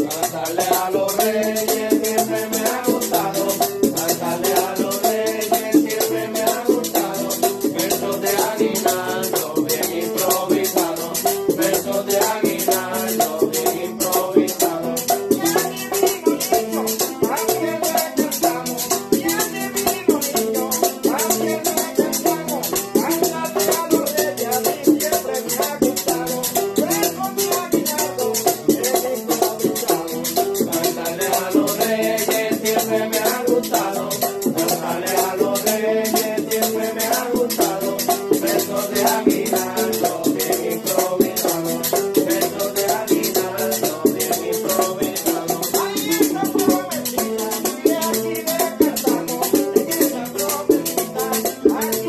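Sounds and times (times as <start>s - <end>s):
rattling shaker rhythm: 0.0s - 52.0s.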